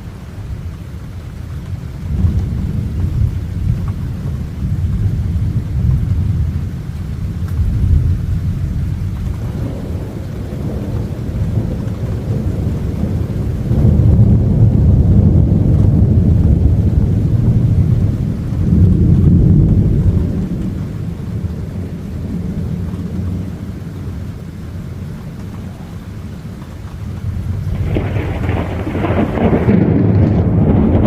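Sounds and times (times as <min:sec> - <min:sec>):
thunder rumbling: 0:00.0 - 0:31.0.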